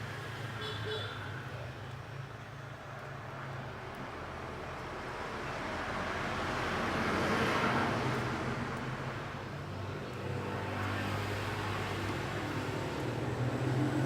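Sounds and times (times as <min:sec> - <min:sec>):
road vehicle passing: 0:01.4 - 0:14.0.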